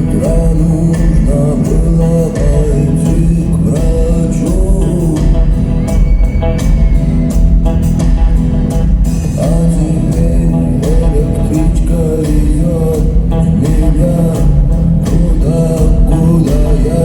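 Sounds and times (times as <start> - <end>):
man singing: 0.0 - 7.0, 9.2 - 17.0
bass: 0.0 - 17.0
drum beat: 0.0 - 17.0
electric guitars: 0.0 - 17.0.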